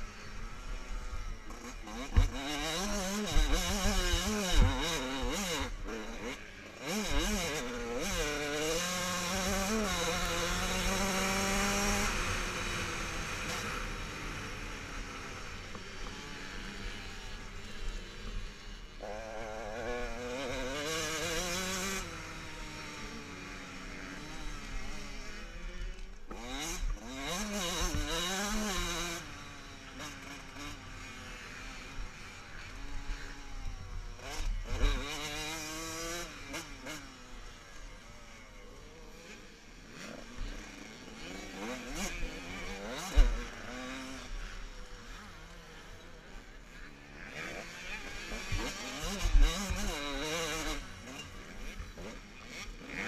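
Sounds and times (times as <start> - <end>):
motocross bikes racing past: 0.0 - 53.0.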